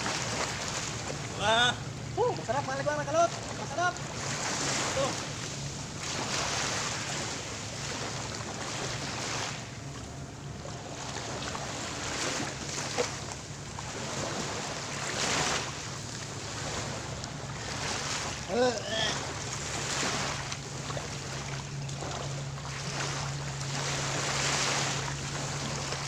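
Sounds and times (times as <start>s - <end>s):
small waves washing on shore: 0.0s - 26.0s.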